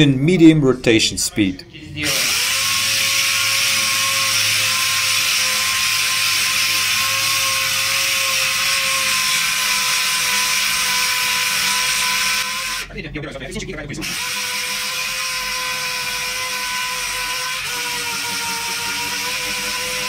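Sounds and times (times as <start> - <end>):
air sander hissing and whining: 2.0 - 12.9, 14.0 - 20.0.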